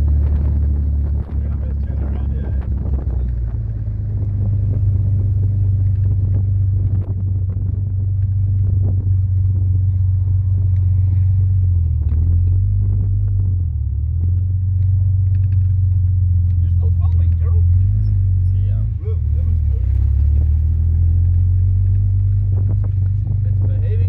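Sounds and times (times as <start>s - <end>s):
car engine humming: 0.0s - 24.0s.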